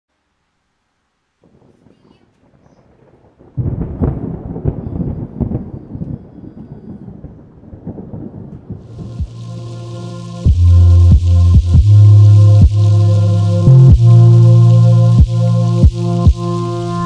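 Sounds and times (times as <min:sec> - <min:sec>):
thunder rumbling and crackling: 0:01.4 - 0:17.0.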